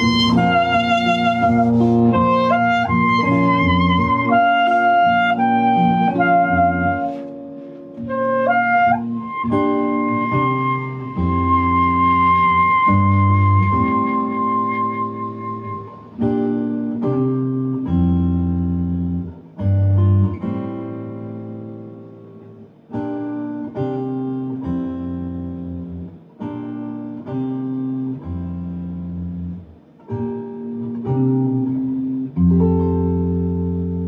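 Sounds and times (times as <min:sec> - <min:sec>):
electric bass notes: 0:00.0 - 0:22.7, 0:23.3 - 0:34.0
acoustic guitar chords: 0:00.0 - 0:34.0.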